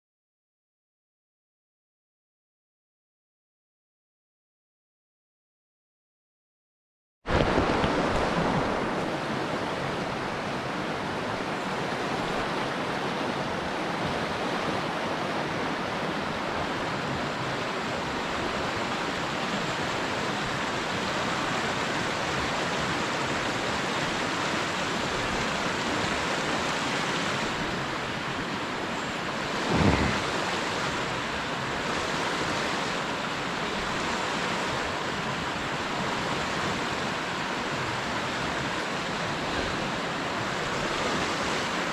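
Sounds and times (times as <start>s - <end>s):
river water flowing: 7.3s - 41.9s.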